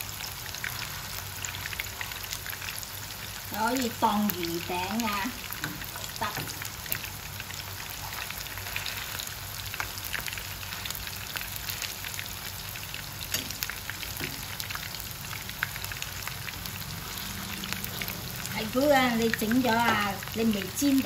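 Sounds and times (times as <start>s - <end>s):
patties sizzling in hot oil: 0.0s - 21.0s.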